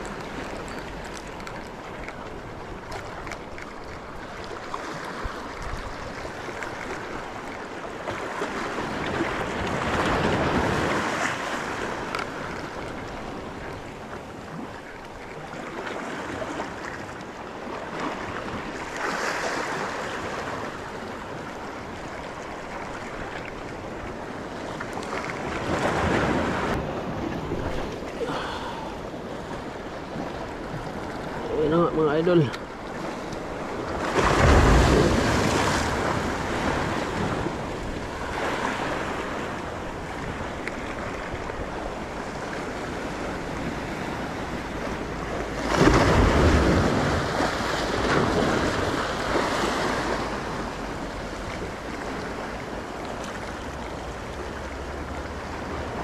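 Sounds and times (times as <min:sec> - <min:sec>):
small waves washing in shallows: 0:00.0 - 0:56.0.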